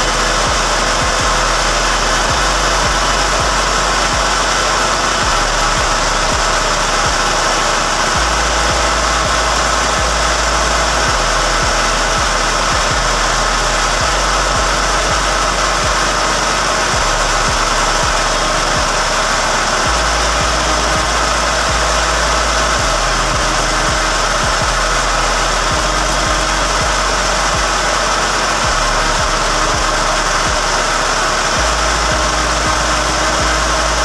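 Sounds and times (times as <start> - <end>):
grinding machine whirring: 0.0 - 34.0.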